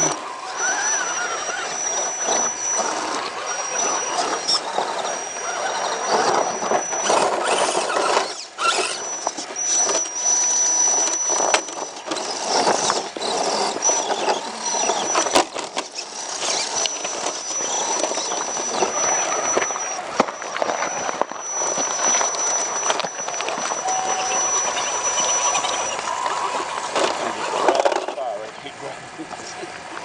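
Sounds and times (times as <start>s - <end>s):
high electric motor whine: 0.0s - 30.0s
tires crunching and scraping on rock: 0.0s - 30.0s.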